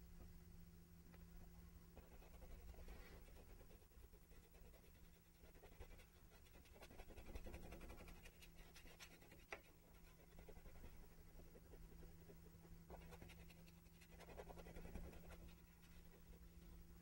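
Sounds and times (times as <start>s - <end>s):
low steady hum: 0.0s - 17.0s
brush scratching on canvas: 2.0s - 16.4s.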